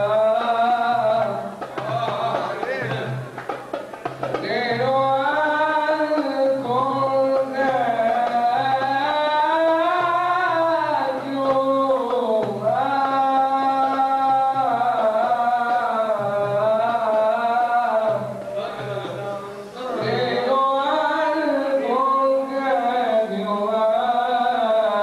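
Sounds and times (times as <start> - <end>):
man chanting into microphone: 4.4 - 25.0.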